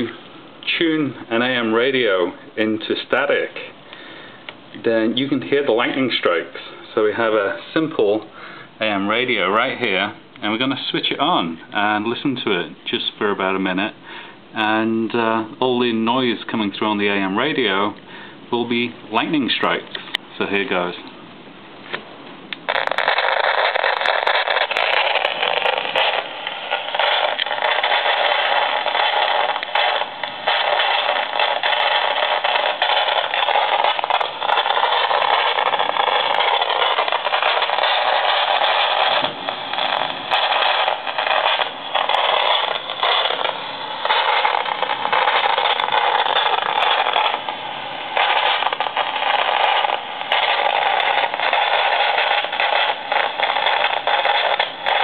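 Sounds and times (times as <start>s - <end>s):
radio crackles and pops: 0.0s - 14.0s, 14.6s - 21.2s, 21.8s - 55.0s
radio static hiss: 0.0s - 21.1s, 21.8s - 55.0s.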